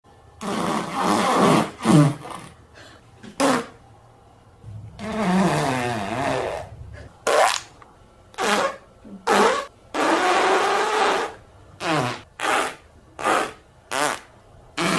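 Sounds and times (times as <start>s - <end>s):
fart sound effects: 0.4s - 2.6s, 3.4s - 3.8s, 4.7s - 7.8s, 8.4s - 14.9s.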